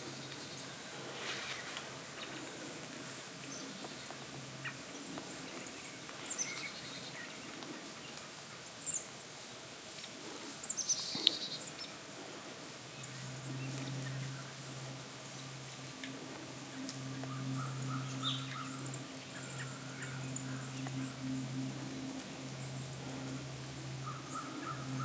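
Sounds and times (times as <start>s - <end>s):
birds chirping: 0.0s - 9.2s, 10.2s - 25.0s
low steady hum: 0.0s - 25.0s.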